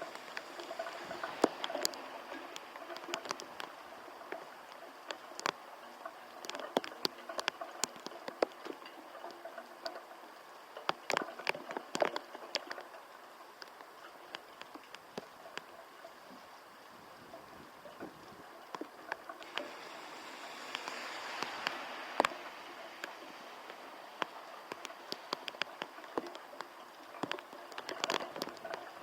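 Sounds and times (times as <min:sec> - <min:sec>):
rain hissing: 0:00.0 - 0:29.0
raindrops tapping: 0:00.0 - 0:29.0.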